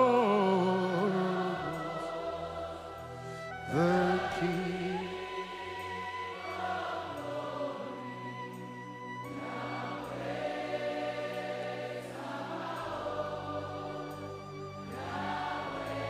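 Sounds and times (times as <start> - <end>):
congregation singing worship chorus: 0.0 - 16.0.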